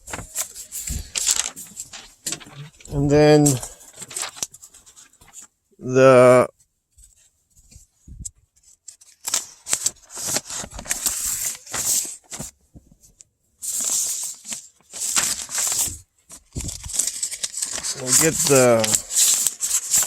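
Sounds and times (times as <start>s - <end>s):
plastic connectors rustling and scraping: 0.0s - 5.5s, 8.6s - 20.0s.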